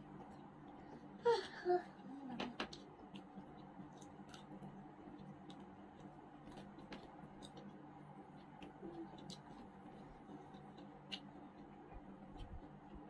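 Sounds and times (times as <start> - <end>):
chewing and eating sounds: 0.0 - 13.0
low steady hum: 0.0 - 13.0.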